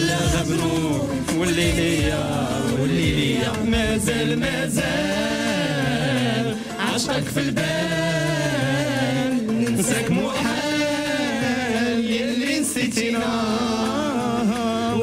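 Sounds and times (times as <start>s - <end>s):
backing music: 0.0s - 15.0s
man and woman singing: 0.0s - 15.0s.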